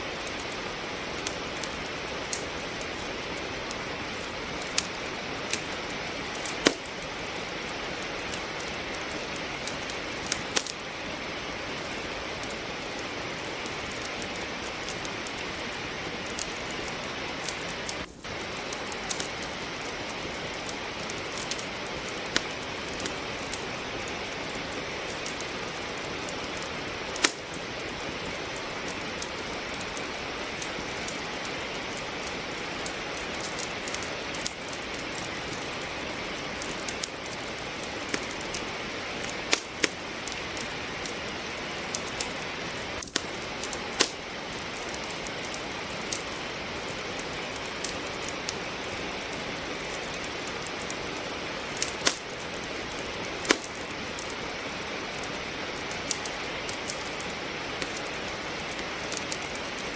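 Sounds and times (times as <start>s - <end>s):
steady rain falling: 0.0s - 59.9s
wood fire crackling: 0.0s - 59.9s.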